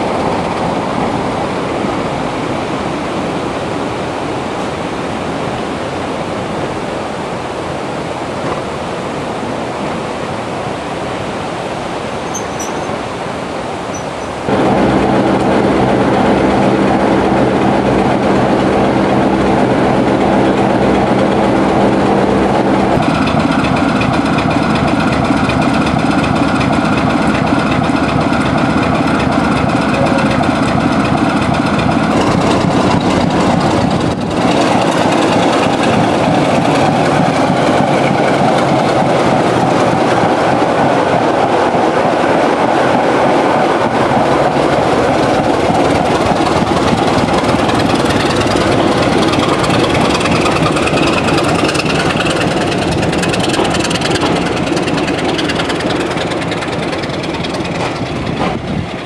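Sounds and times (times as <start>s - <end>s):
diesel locomotive engine running: 0.0s - 9.1s, 11.2s - 59.0s.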